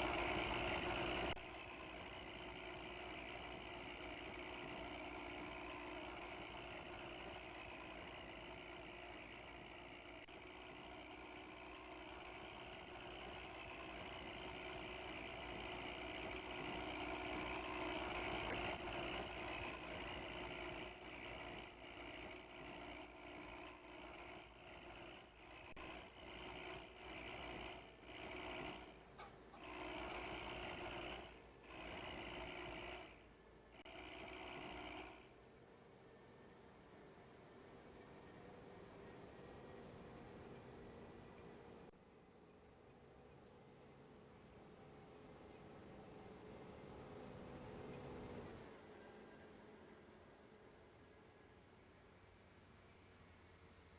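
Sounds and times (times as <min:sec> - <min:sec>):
bus engine snoring under load: 0:00.0 - 0:42.0, 0:43.1 - 0:53.9.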